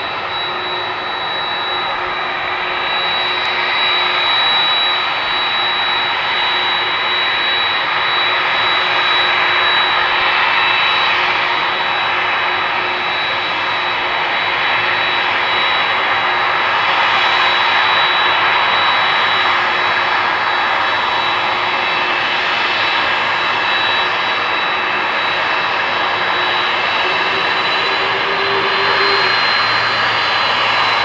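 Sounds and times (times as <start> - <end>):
jet engines running with high whine: 0.0 - 31.0.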